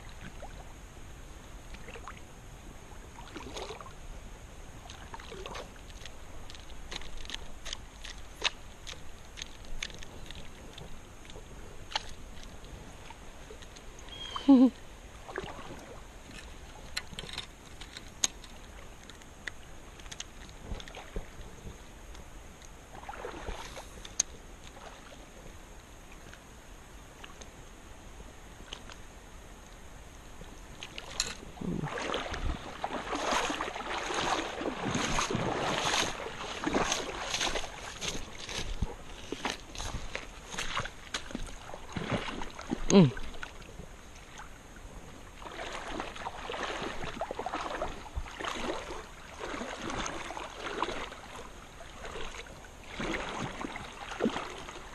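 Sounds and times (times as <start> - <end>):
water sloshing and splashing: 0.0 - 0.8, 1.6 - 26.5, 29.6 - 54.9.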